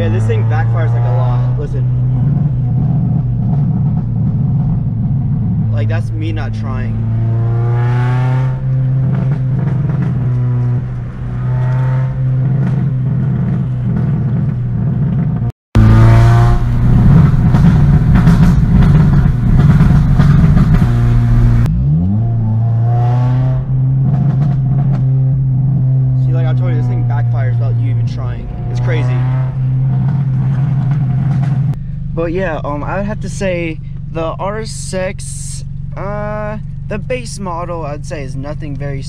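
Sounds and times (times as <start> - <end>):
car engine revving: 0.0 - 39.0
exhaust backfire pops: 1.8 - 34.6.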